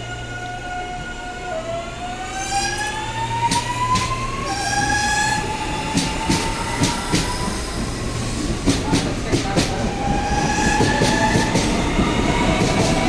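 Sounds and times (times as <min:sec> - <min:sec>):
train motor whine: 0:00.0 - 0:13.0.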